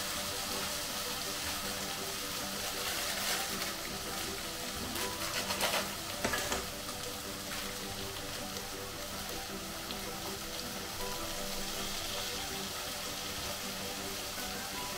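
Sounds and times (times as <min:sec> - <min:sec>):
potatoes sizzling in a pan: 0:00.0 - 0:14.9.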